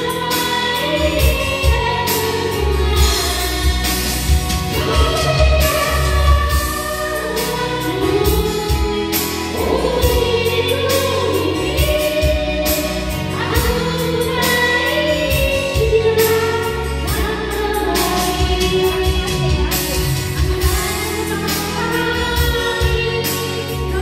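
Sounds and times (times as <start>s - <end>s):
backing music with beat and bass: 0.0s - 24.0s
woman singing into microphone: 0.0s - 24.0s.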